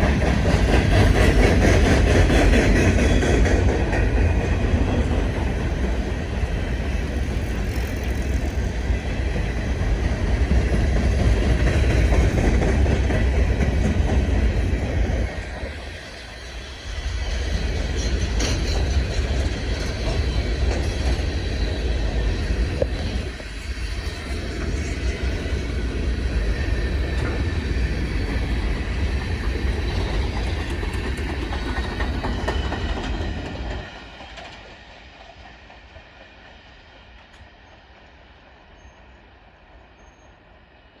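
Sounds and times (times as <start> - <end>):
clacking train wheels: 0.0 - 40.9
freight train rumbling past: 0.0 - 41.0.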